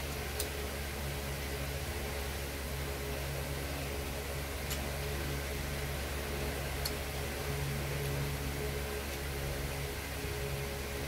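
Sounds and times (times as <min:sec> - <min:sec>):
low mechanical hum with hiss: 0:00.0 - 0:11.0.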